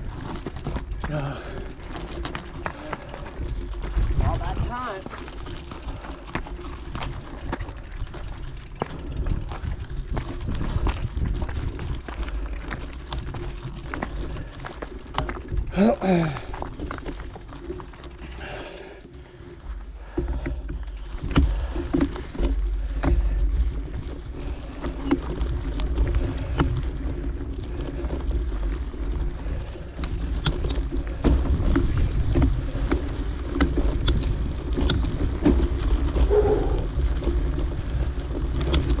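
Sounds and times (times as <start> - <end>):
bike rolling over rough trail: 0.0 - 39.0
clicks and rattles over stones: 0.0 - 39.0.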